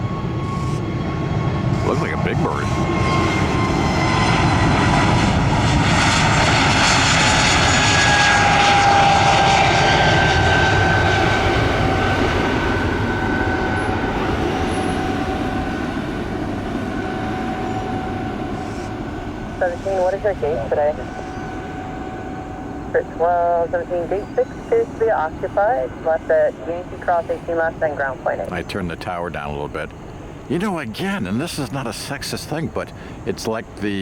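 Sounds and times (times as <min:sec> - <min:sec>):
jet airliner passing: 0:00.0 - 0:34.0.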